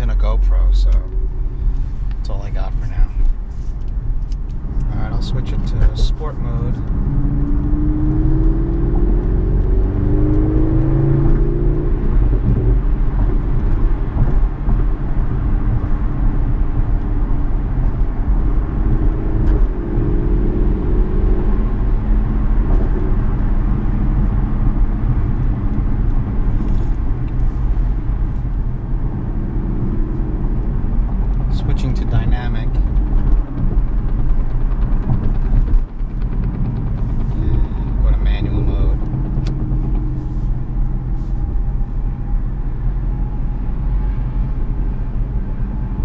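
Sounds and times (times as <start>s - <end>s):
car engine accelerating: 0.0s - 46.0s
road and tyre rumble: 0.0s - 46.0s.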